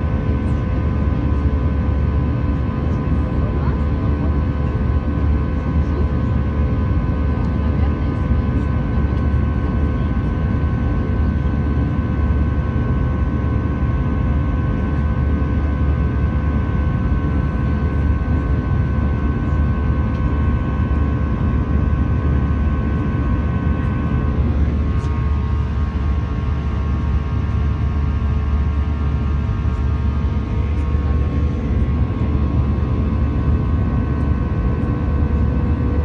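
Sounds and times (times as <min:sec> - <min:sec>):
jet engine and airflow rumble: 0:00.0 - 0:36.0.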